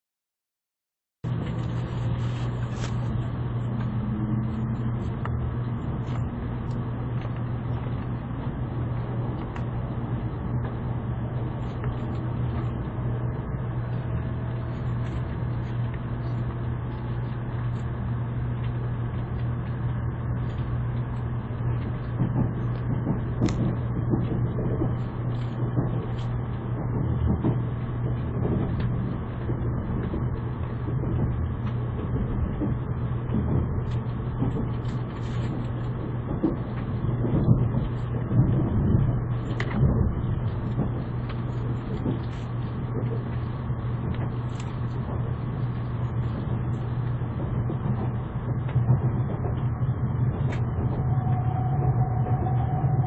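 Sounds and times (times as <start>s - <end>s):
steady low hum: 1.2s - 53.0s
train running rumble: 1.2s - 53.0s.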